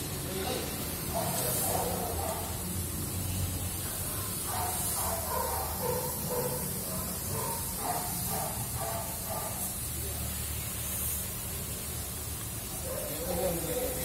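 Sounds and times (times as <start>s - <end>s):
loud hiss: 0.0s - 14.0s.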